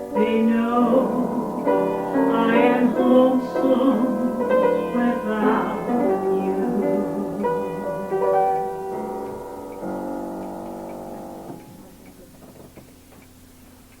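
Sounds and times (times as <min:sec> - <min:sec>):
faint steady ticking: 0:00.0 - 0:14.0
solo piano: 0:00.0 - 0:14.0.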